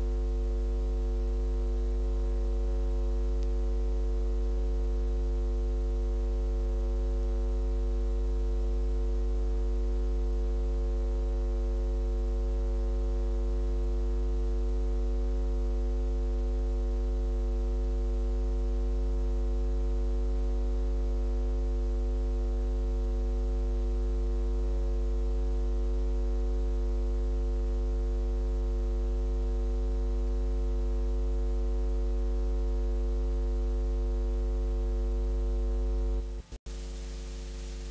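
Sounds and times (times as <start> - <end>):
electrical mains hum: 0.0 - 26.6, 27.3 - 37.9.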